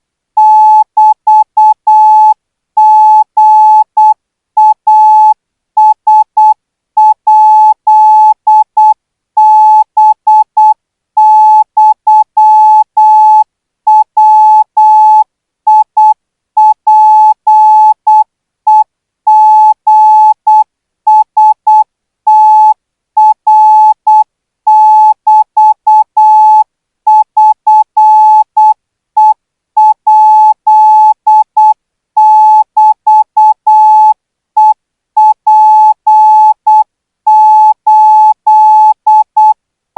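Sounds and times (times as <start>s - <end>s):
morse code beeps: 0.4s - 39.6s.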